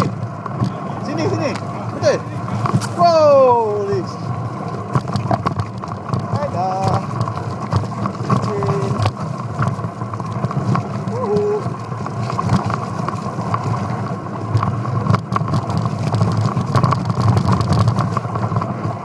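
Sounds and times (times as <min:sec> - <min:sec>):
bike rattling and knocking: 0:00.0 - 0:19.0.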